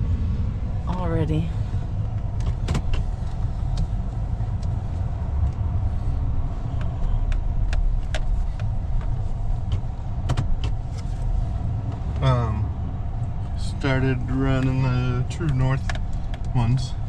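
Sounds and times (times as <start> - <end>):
vehicle engine low rumble: 0.0 - 17.0.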